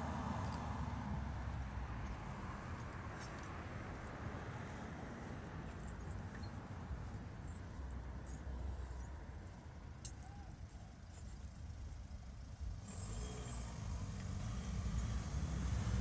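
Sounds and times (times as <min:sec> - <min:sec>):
low rumble of passing cars: 0:00.0 - 0:16.0.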